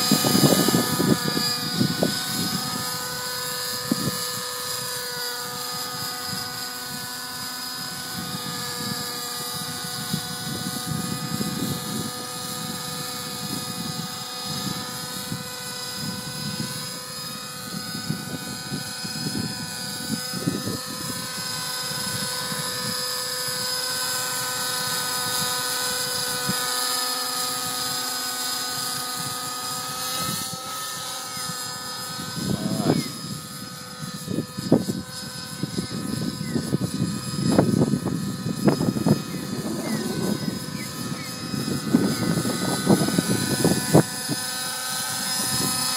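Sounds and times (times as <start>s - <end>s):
wind buffeting microphone: 0.0s - 26.7s, 28.6s - 45.9s
model helicopter whine: 0.0s - 45.9s.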